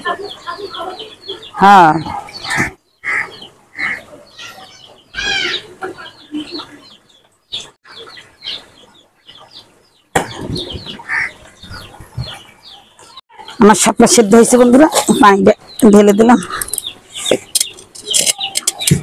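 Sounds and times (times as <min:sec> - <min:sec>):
chickens clucking: 0:00.0 - 0:13.8, 0:14.6 - 0:19.0.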